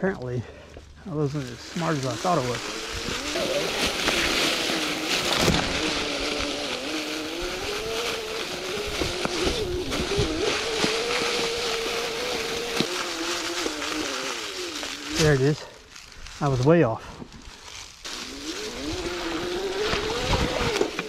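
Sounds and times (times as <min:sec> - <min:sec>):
dry leaves crackling under tyres: 0:00.0 - 0:21.0
electric motorcycle motor whining: 0:01.4 - 0:15.6, 0:18.0 - 0:21.0.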